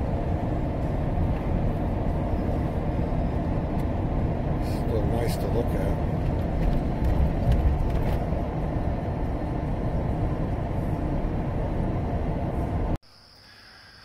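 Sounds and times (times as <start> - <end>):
car road noise at highway speed: 0.0 - 13.0.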